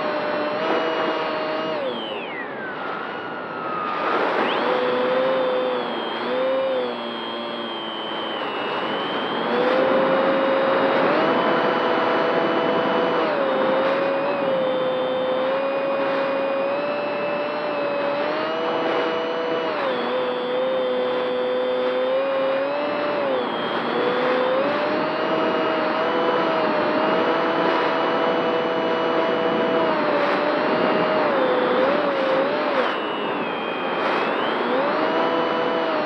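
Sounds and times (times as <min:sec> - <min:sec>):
model airplane motor whine: 0:00.0 - 0:36.0.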